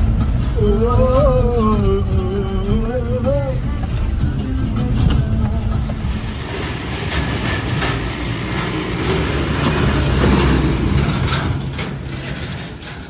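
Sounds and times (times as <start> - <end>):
engine low rumble: 0.0 - 13.0
vehicle body rattling and knocking: 0.0 - 13.0.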